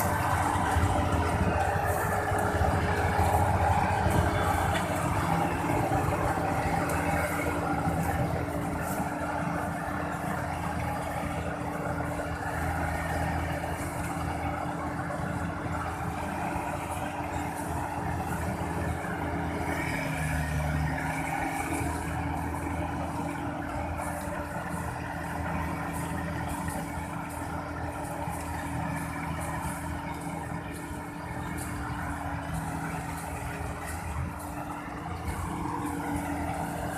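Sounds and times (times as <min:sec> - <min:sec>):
combine harvester diesel engine: 0:00.0 - 0:36.9.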